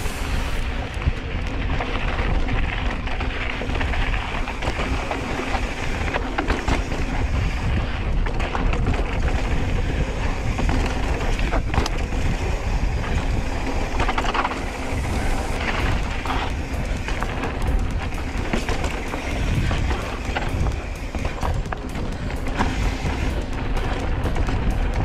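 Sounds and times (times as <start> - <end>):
bike rattling over ground: 0.0 - 25.0
bike tyre noise: 0.0 - 25.0
wind on microphone: 0.0 - 25.0.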